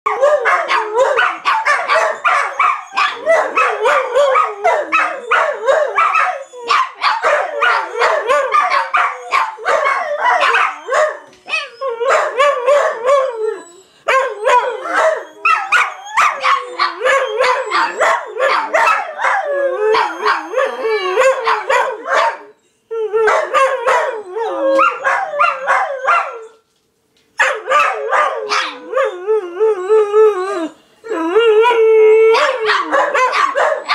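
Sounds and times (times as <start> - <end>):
dog barks and yips: 0.1 - 13.2, 14.1 - 20.6, 21.2 - 22.5, 23.2 - 26.5, 27.4 - 29.1, 32.3 - 33.9
dogs howling: 0.1 - 26.6, 27.4 - 33.9.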